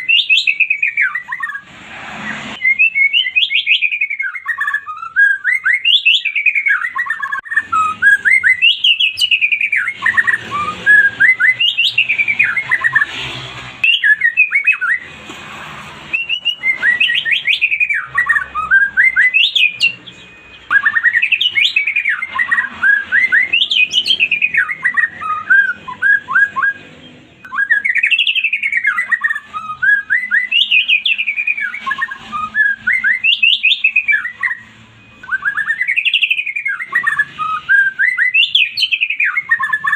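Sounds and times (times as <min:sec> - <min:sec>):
bird singing whistled notes: 0:00.0 - 0:01.6, 0:02.3 - 0:13.2, 0:13.8 - 0:15.1, 0:16.1 - 0:39.9.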